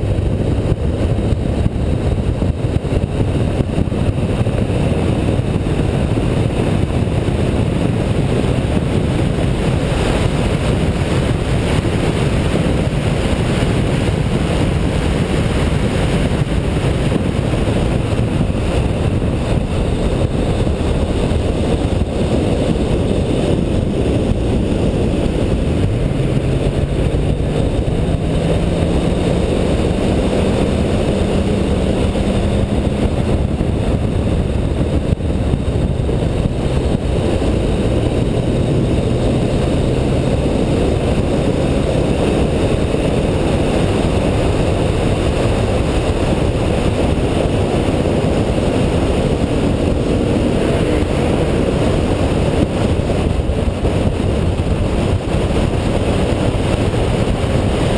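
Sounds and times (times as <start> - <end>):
car engine accelerating: 0.0 - 57.9
wind and road noise: 0.0 - 57.9.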